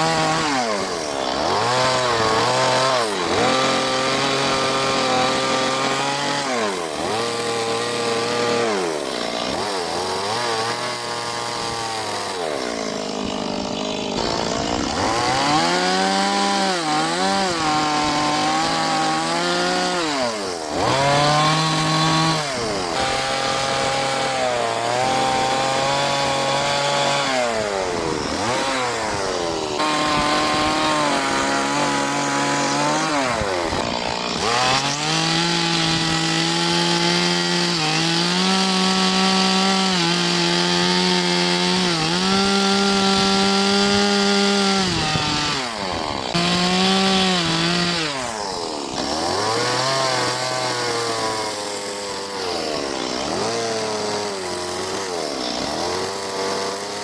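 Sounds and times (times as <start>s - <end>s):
chainsaw revving while cutting wood: 0.0s - 57.0s.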